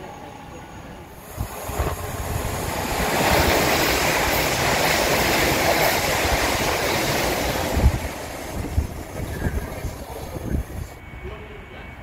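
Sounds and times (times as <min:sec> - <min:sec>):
rushing air from passing train: 0:00.0 - 0:12.0
train wheels rushing on rails: 0:00.0 - 0:12.0.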